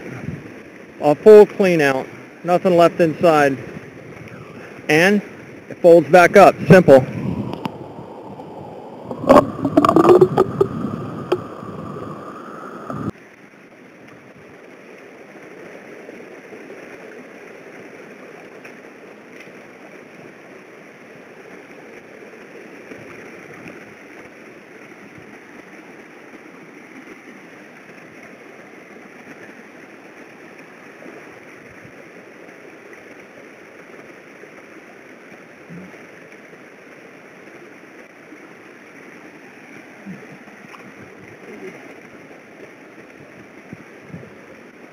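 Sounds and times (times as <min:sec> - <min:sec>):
creek running over rocks: 0:00.0 - 0:44.9.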